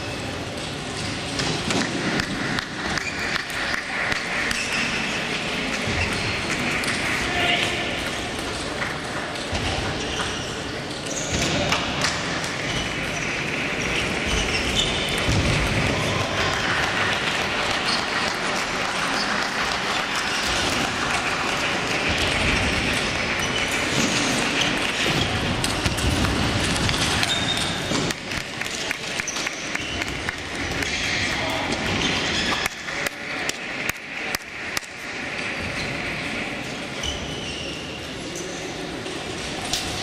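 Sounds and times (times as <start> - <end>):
sports hall background noise: 0.0 - 40.0.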